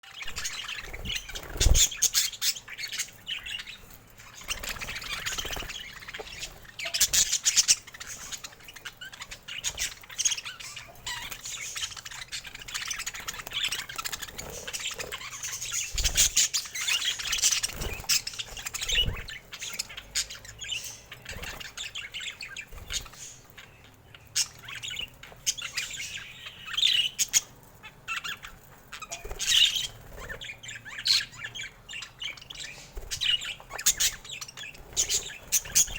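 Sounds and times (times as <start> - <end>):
budgerigars chirping and squawking: 0.0 - 35.9.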